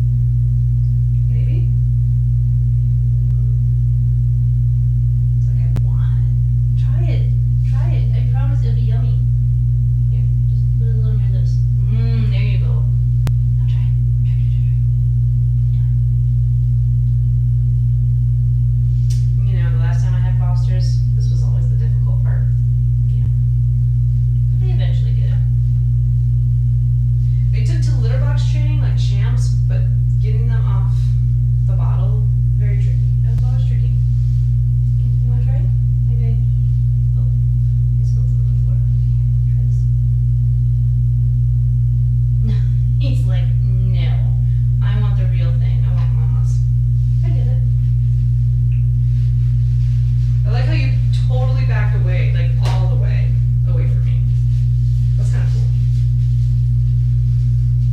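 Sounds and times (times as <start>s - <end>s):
loud steady low hum: 0.0s - 57.9s.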